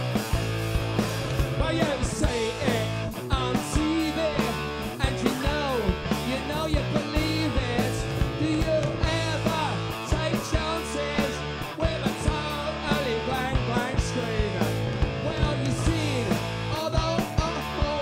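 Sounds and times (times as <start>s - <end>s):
punk rock band playing: 0.0s - 18.0s.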